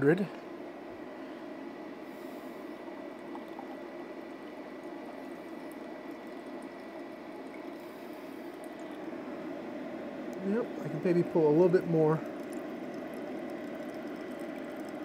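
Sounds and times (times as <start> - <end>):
water pump running: 2.1 - 15.0
water flowing into tank: 2.2 - 15.0.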